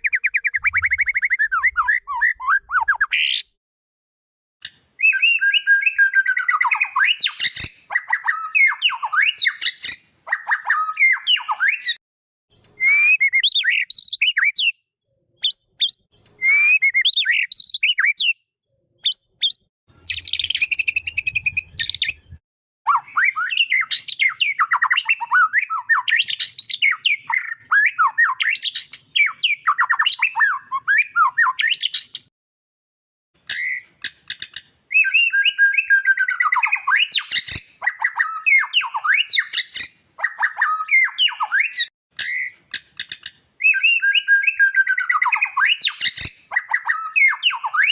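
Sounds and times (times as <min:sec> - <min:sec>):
bird singing whistled phrases: 0:00.0 - 0:03.5, 0:05.0 - 0:12.0, 0:12.6 - 0:14.8, 0:15.4 - 0:18.4, 0:19.0 - 0:32.3, 0:33.5 - 0:33.9, 0:34.9 - 0:42.6, 0:43.6 - 0:47.9.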